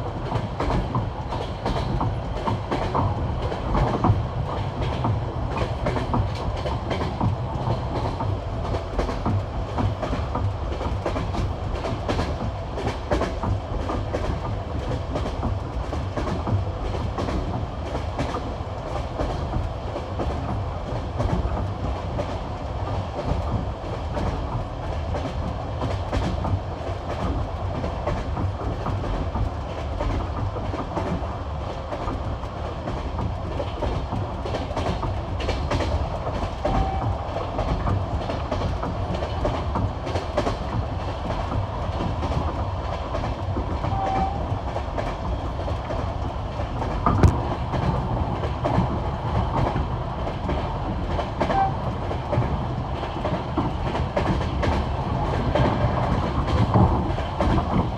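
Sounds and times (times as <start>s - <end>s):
train wheels clattering over rails: 0.0s - 57.9s.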